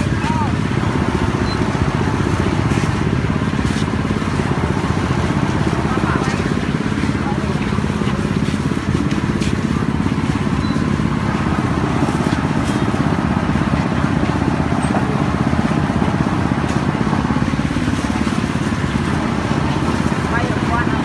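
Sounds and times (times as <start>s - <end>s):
engine with low pulsing: 0.0s - 21.0s.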